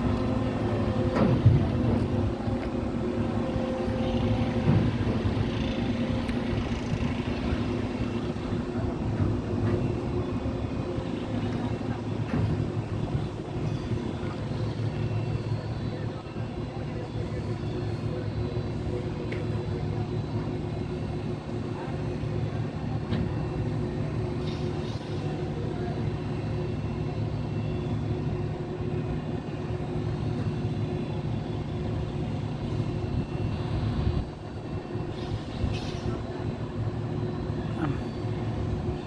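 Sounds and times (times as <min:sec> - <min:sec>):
large engine droning: 0:00.0 - 0:39.0.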